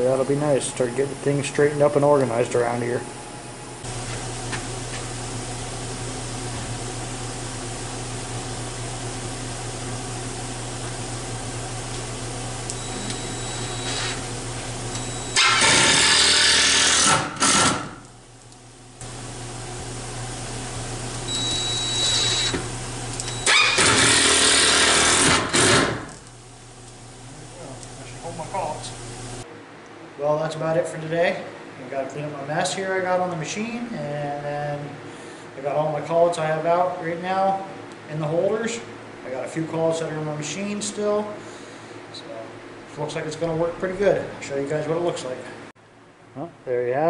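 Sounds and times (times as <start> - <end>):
shop machinery humming: 0.0 - 45.7.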